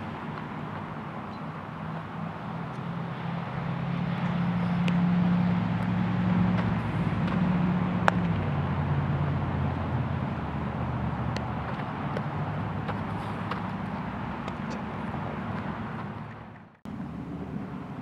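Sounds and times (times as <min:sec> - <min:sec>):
vehicle engine passing by: 0:00.0 - 0:18.0.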